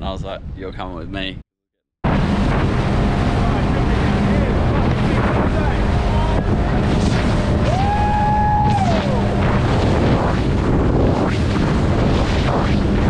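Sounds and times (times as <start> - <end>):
boat rushing over water: 2.0 - 13.0
wind buffeting microphone: 2.1 - 13.0.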